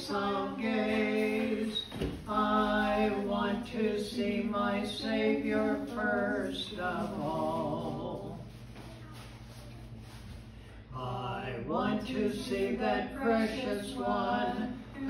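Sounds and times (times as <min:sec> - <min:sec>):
man and woman singing a hymn: 0:00.0 - 0:08.6, 0:10.9 - 0:15.0.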